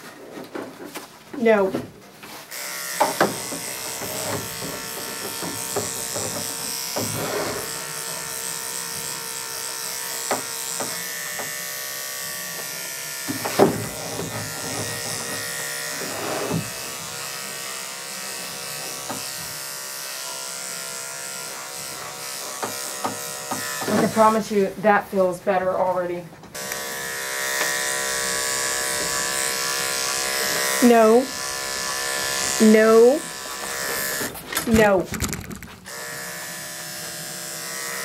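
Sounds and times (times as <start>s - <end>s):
electric clipper buzzing: 2.5s - 24.6s, 26.5s - 38.0s.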